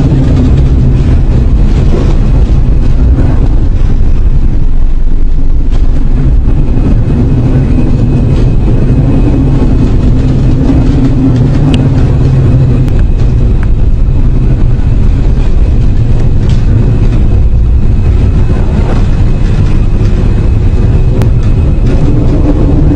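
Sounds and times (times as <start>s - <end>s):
loud low rumble: 0.0s - 22.9s.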